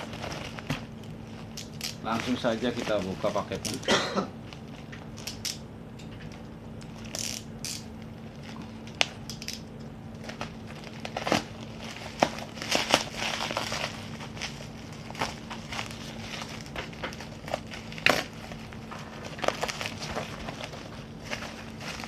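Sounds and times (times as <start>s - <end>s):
packaging crinkling and rustling: 0.0s - 5.5s, 6.3s - 22.0s.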